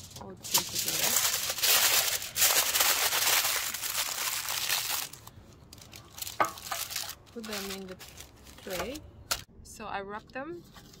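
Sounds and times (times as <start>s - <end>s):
aluminium foil crinkling: 0.0s - 9.5s.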